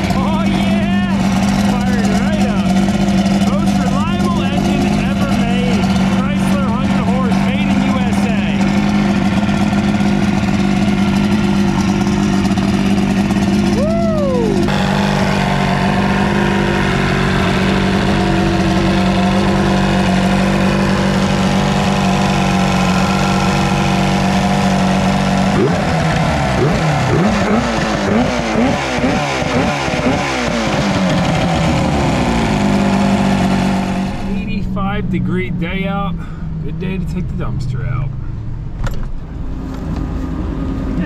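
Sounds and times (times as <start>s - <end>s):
outboard motor idling and revving: 0.0s - 41.0s.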